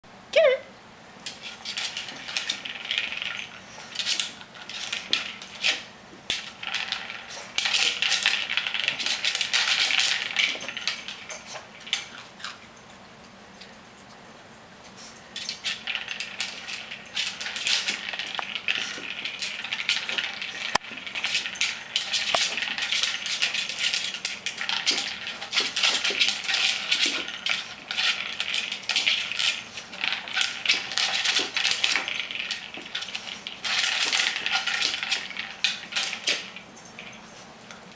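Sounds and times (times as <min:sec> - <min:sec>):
treats rattling inside toy: 0:01.3 - 0:12.7, 0:15.4 - 0:37.4.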